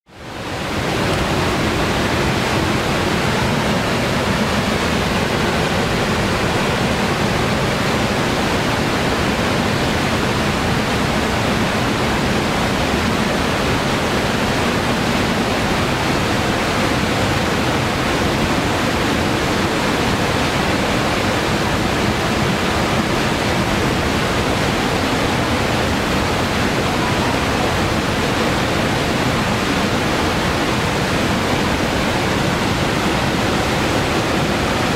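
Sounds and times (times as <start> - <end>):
whitewater rushing over rocks: 0.1 - 34.9.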